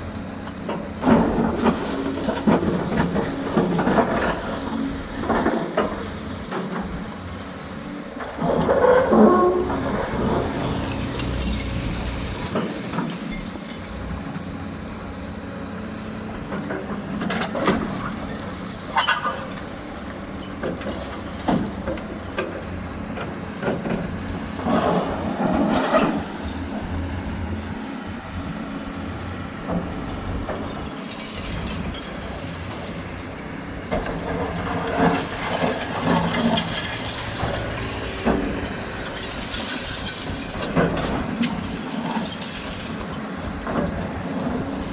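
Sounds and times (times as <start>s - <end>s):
excavator engine running: 0.0s - 44.9s.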